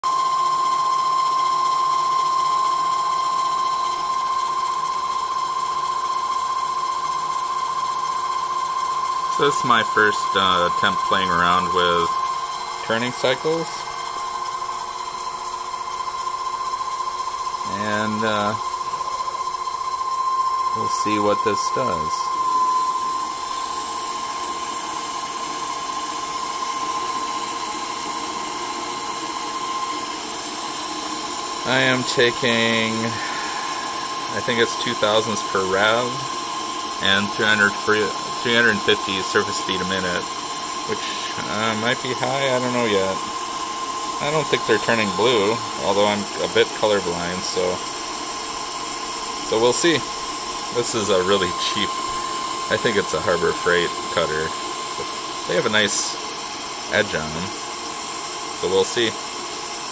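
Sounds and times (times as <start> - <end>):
lathe spindle whine: 0.0 - 59.9
tool cutting metal: 9.1 - 59.9.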